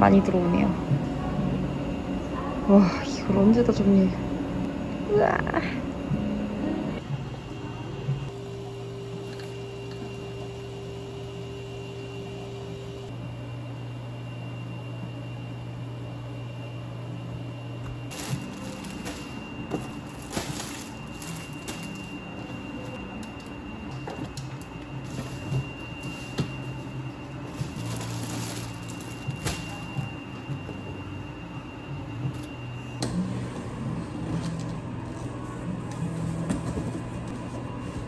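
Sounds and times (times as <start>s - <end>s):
refrigerators humming: 0.0s - 38.0s.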